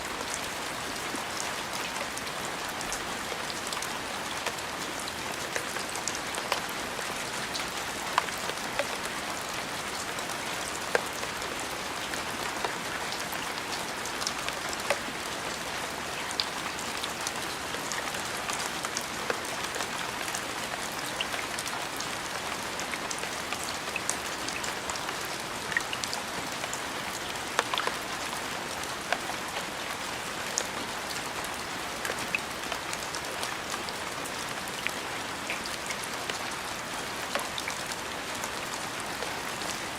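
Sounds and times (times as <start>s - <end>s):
steady rain falling: 0.0s - 39.9s
raindrops pattering: 0.1s - 39.9s.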